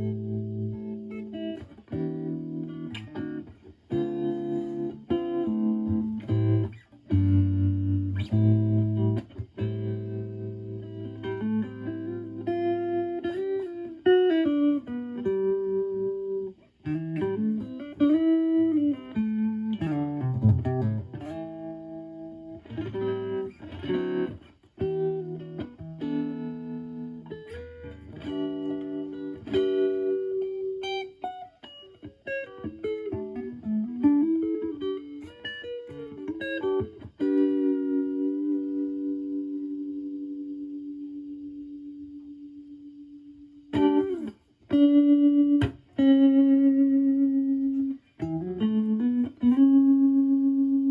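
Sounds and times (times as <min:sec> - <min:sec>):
electric guitar with tremolo: 0:00.0 - 0:50.9.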